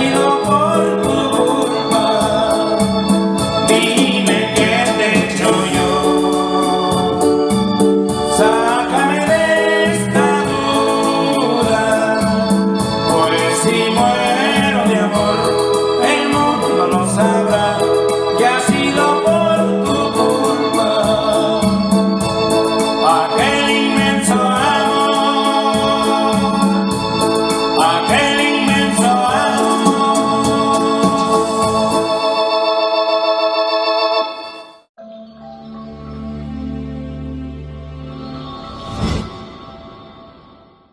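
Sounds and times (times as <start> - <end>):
person singing: 0.0 - 34.6
electronic organ song: 0.0 - 40.9.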